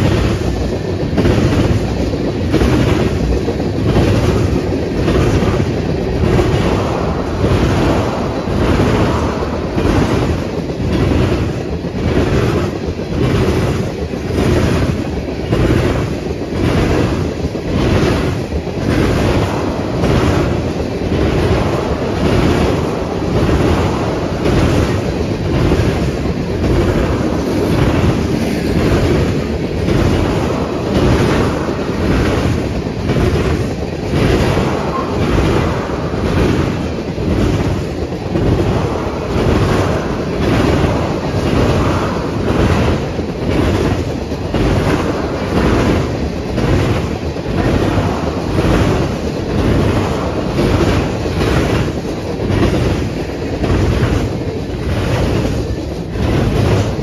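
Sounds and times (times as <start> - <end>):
train rumble: 0.0 - 57.0
train wheels clattering over rail joints: 0.0 - 57.0.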